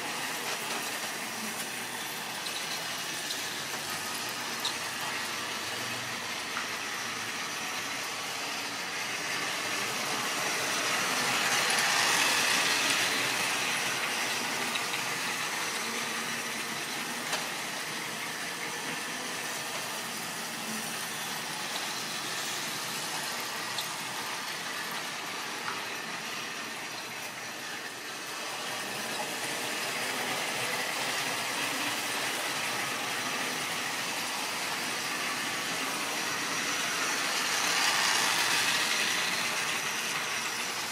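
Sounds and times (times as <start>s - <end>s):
model train motors whirring: 0.0s - 40.9s.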